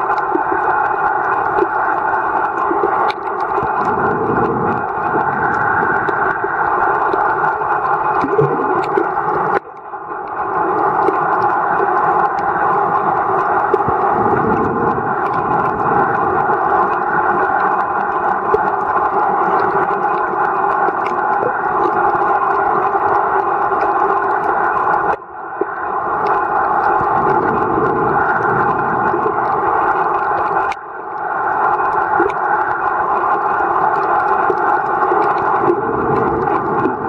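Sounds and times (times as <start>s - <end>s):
faint crackles: 0.0s - 37.0s
muffled underwater noise: 0.0s - 37.0s.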